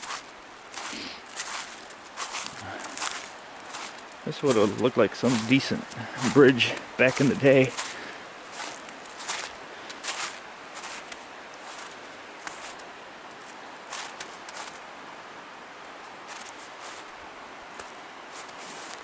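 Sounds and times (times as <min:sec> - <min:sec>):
footsteps on forest trail: 0:00.0 - 0:14.9, 0:16.1 - 0:19.0
steady background hiss: 0:00.0 - 0:19.0.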